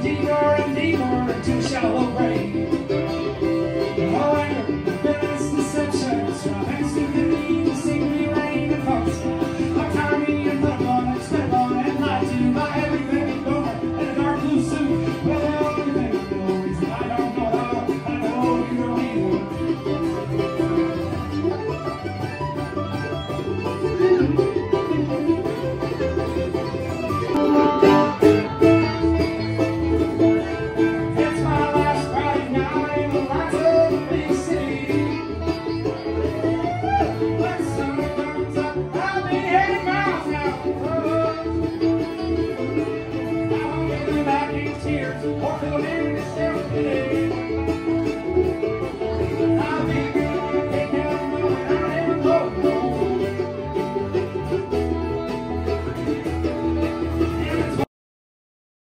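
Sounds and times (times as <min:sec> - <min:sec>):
pulsing bass line: 0:00.0 - 0:57.8
band playing country music: 0:00.0 - 0:57.9
picked string instruments: 0:00.0 - 0:57.9.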